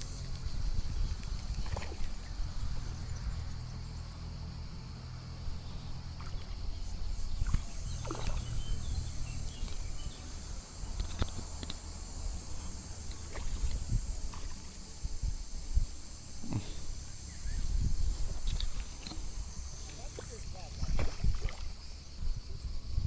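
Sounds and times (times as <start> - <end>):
steady high hiss: 0.0 - 1.4, 2.1 - 20.8
wind buffeting microphone: 0.0 - 3.6, 5.5 - 23.0.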